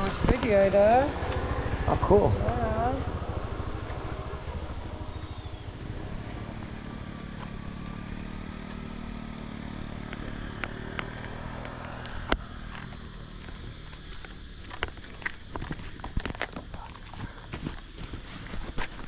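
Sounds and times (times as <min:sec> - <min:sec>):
motorbike engine running: 0:00.0 - 0:19.0.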